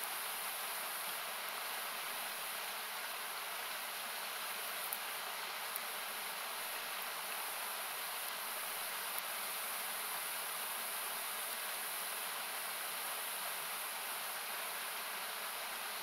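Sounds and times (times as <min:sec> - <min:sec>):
wood fire crackle: 0:00.0 - 0:13.5
rushing river hiss: 0:00.0 - 0:16.0.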